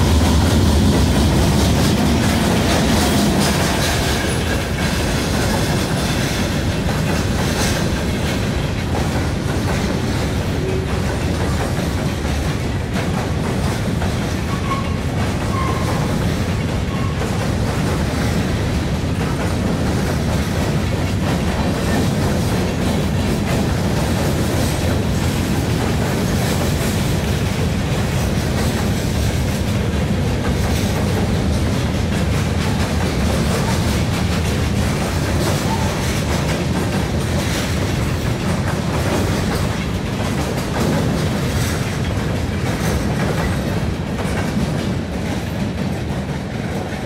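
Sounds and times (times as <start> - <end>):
train wheels rumbling on rail: 0.0 - 47.0
wheels clicking over rail joints: 0.0 - 47.0.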